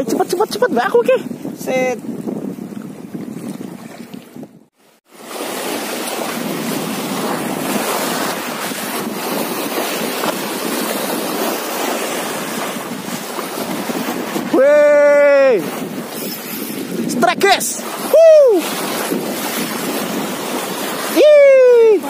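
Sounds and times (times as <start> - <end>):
wind and waves rushing: 0.0 - 22.0.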